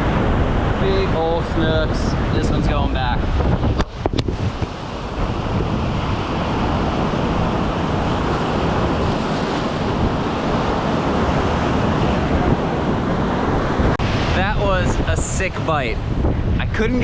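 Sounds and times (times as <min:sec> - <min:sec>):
ocean surf washing in: 0:00.0 - 0:17.0
wind buffeting microphone: 0:00.0 - 0:17.0.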